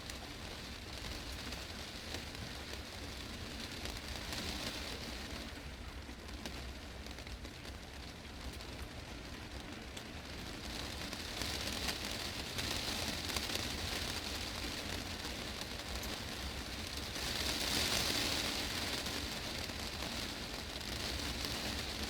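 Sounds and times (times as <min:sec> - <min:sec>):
heavy rain on glass roof: 0:00.0 - 0:22.0.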